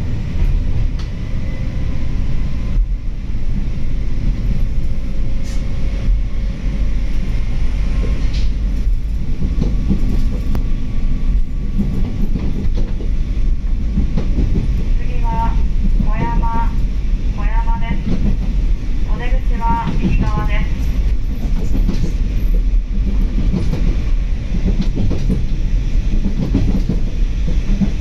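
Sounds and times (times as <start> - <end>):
railcar engine and wheel rumble: 0.0 - 28.0.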